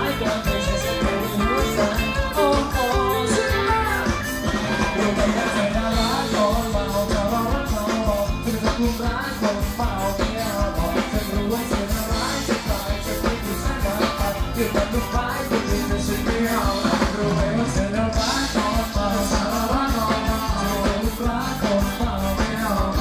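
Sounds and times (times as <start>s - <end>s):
drum kit: 0.0s - 23.0s
electric guitars: 0.0s - 23.0s
man singing into microphone: 0.0s - 23.0s.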